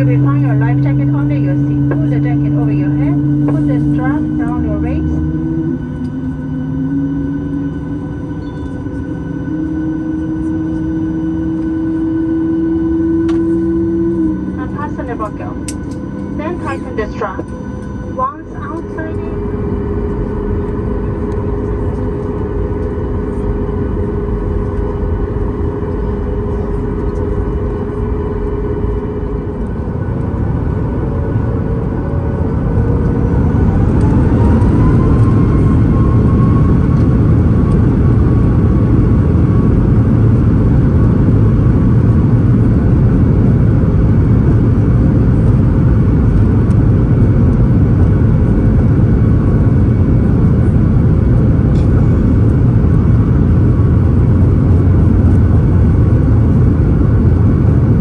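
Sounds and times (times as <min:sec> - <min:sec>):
jet engine spooling up whine: 0:00.0 - 0:58.0
jet engines heard from cabin: 0:00.0 - 0:58.0.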